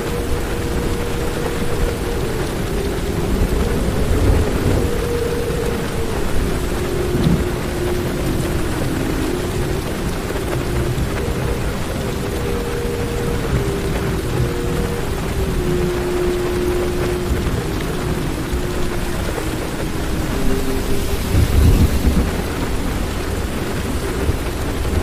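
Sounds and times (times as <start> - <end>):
heavy rain on car roof: 0.0 - 25.0
thunder rumbling: 0.0 - 25.0.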